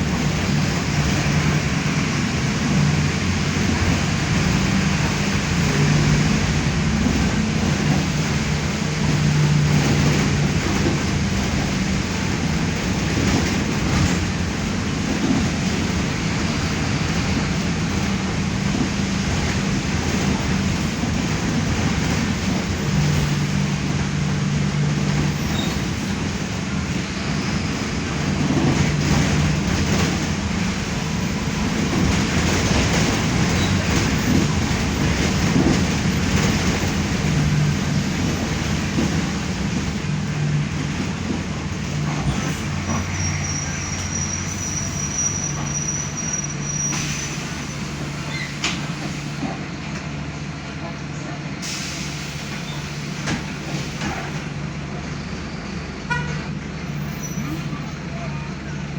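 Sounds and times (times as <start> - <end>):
bus diesel engine running: 0.0 - 58.9
road and body rattle: 0.0 - 58.9.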